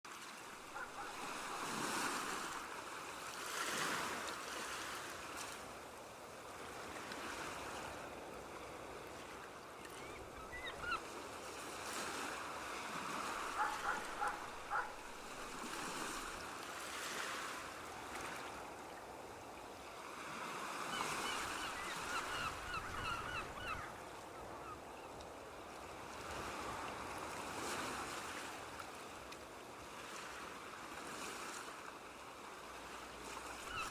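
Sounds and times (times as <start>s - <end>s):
waves washing onto shore: 0.1s - 33.9s.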